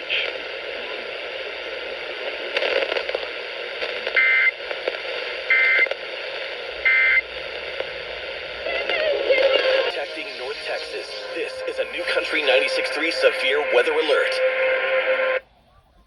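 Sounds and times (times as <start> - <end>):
radio hiss and crackle: 0.0 - 15.4.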